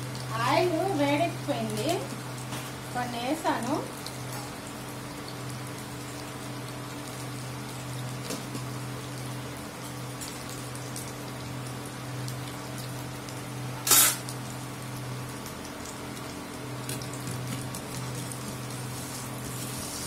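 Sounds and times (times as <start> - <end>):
deep-frying oil sizzling: 0.0 - 20.0.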